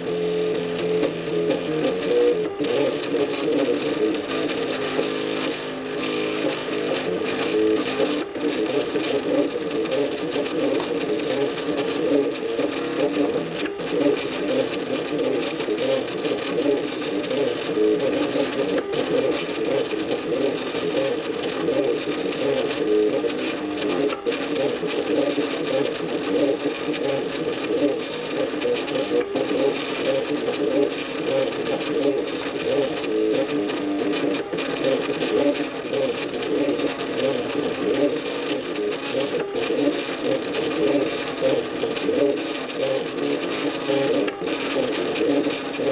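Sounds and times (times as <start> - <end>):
stepper motors whining: 0.0 - 45.9.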